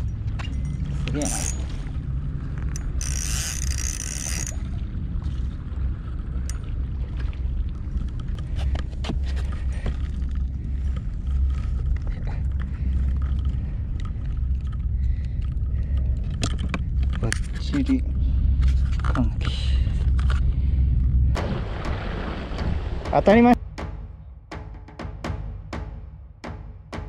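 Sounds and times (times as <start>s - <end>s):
wind rumble on microphone: 0.0s - 23.6s.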